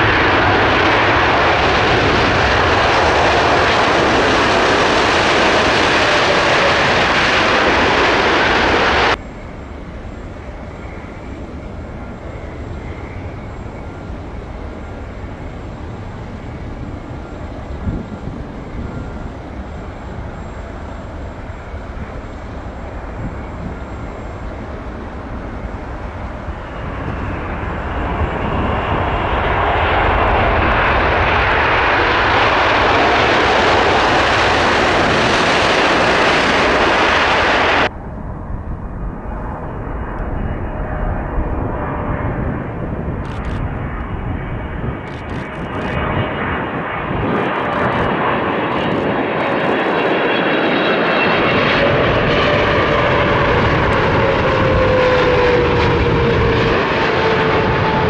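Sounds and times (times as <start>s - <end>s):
airliner engine noise on approach: 0.0s - 58.0s
jet engines rushing: 0.0s - 58.0s.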